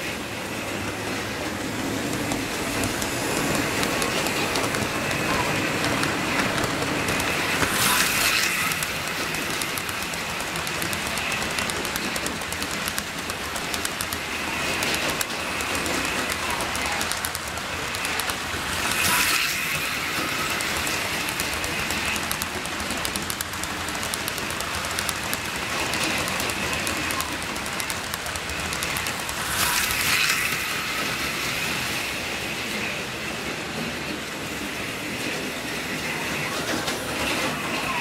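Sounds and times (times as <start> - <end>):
model train cars rolling: 0.0 - 38.0
wheels clicking over rail joints: 0.0 - 38.0.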